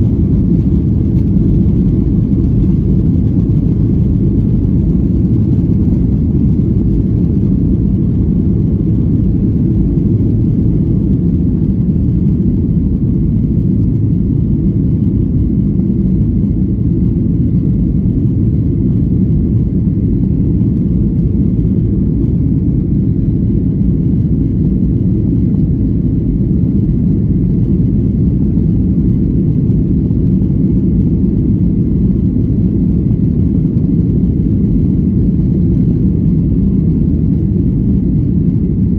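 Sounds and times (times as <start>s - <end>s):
jet cabin engine rumble: 0.0s - 38.9s.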